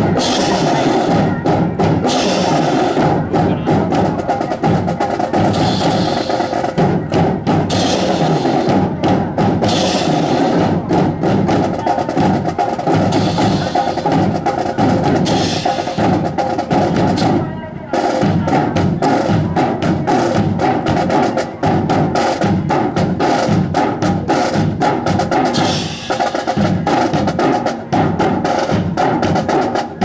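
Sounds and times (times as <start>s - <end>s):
marching drum cadence: 0.0s - 30.0s.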